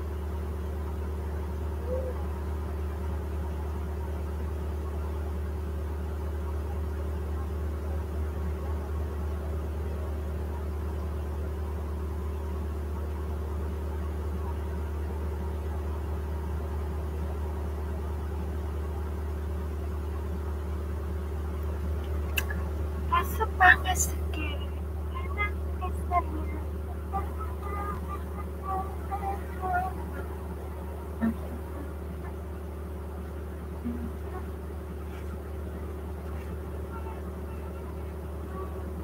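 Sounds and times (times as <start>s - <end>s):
low hum with faint hiss: 0.0s - 39.0s.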